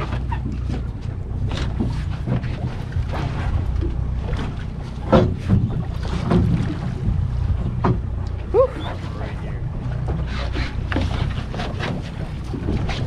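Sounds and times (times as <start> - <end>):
boat engine idling: 0.0 - 13.0
water washing along hull: 0.0 - 13.0
wind buffeting microphone: 0.0 - 13.0.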